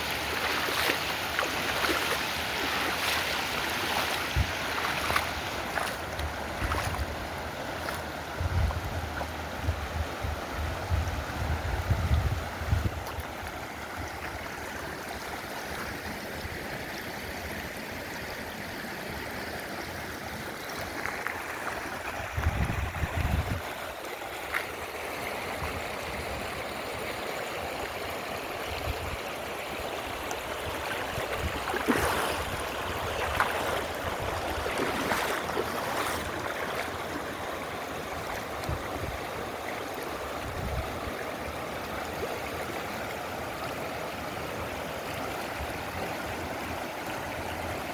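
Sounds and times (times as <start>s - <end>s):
river water flowing: 0.0s - 47.9s.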